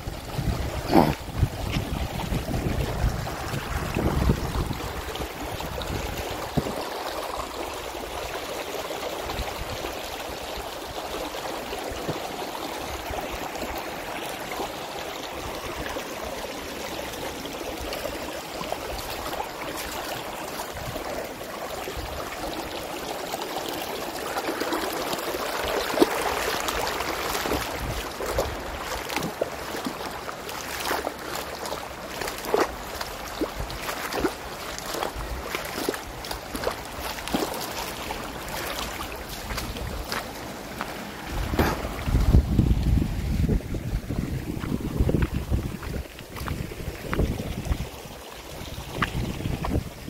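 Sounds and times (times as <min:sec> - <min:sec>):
stream water running: 0:00.0 - 0:50.0.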